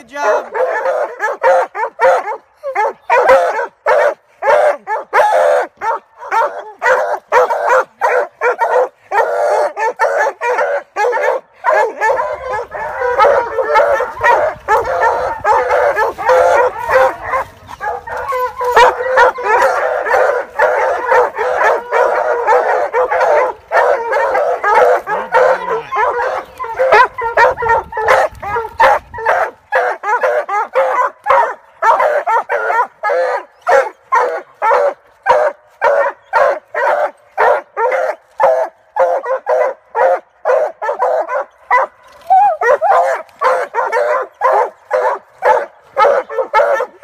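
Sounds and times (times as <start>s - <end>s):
hounds barking in chorus: 0.0s - 47.0s
dogs howling: 0.2s - 47.0s.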